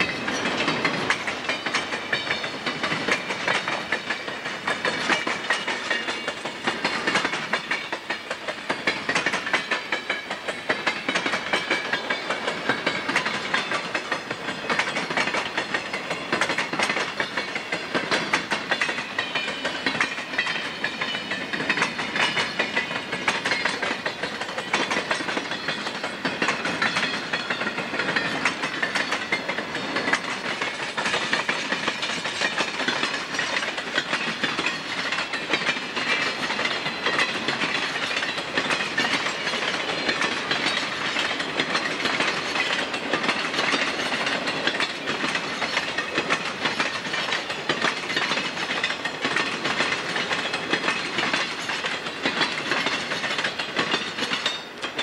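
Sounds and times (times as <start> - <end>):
freight train wheels clacking on rails: 0.0 - 55.0.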